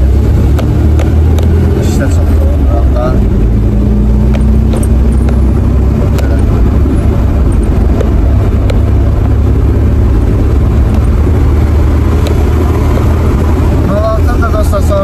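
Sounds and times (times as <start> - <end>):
car engine and road drone: 0.0 - 15.0.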